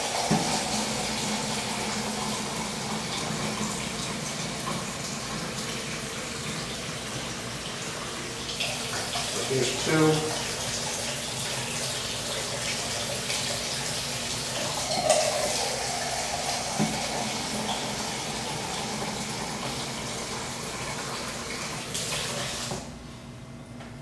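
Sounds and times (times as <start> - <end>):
kitchen tap running: 0.0 - 22.9.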